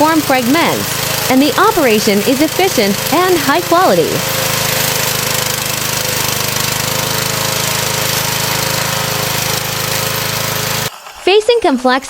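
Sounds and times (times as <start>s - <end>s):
lawn mower cutting thick grass: 0.0s - 12.0s.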